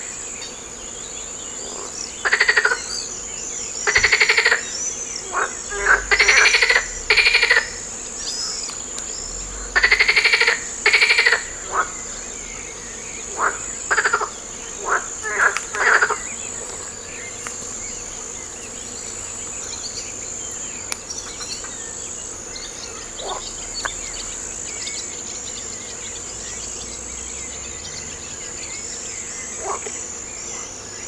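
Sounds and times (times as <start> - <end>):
frogs croaking: 0.0 - 31.0
insects chirping: 0.0 - 31.0.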